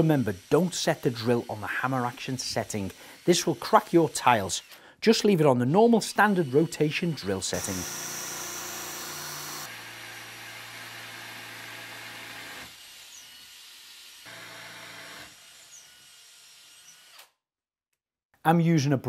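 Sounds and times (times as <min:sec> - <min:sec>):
cordless drill drilling tile: 0:00.0 - 0:04.8, 0:05.6 - 0:17.4.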